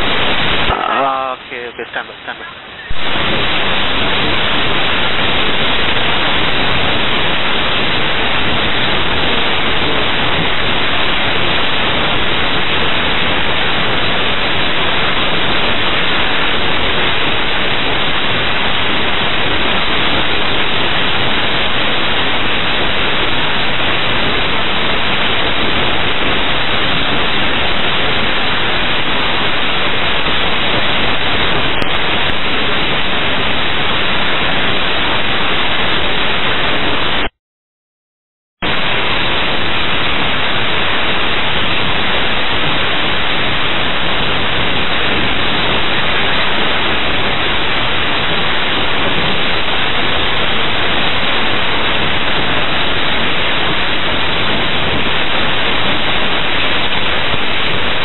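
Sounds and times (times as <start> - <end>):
radio static hiss: 0.0 - 37.3, 38.6 - 58.0.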